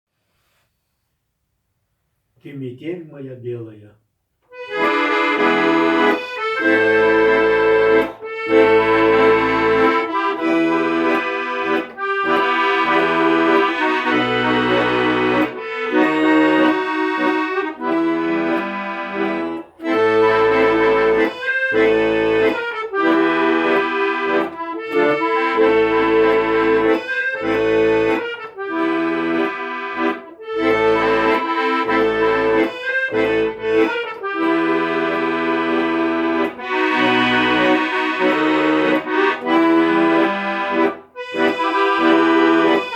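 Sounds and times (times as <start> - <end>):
instrumental music with held notes: 4.4 - 42.9.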